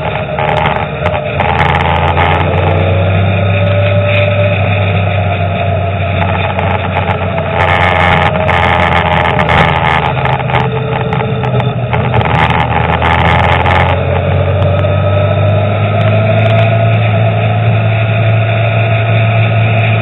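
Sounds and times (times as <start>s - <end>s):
car engine running: 0.0s - 20.0s
crackly hiss: 0.0s - 20.0s
road hum: 0.0s - 20.0s.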